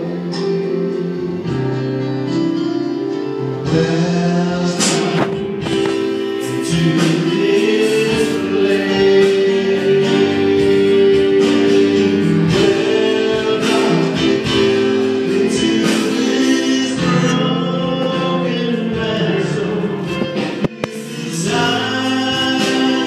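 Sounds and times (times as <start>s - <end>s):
person singing: 0.0s - 2.5s, 3.4s - 23.0s
keyboard chords: 0.0s - 23.0s.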